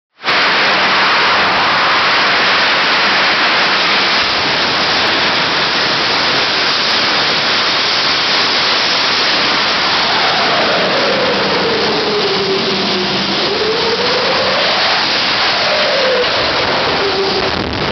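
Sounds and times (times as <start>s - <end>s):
jet engine roaring: 0.2s - 17.9s.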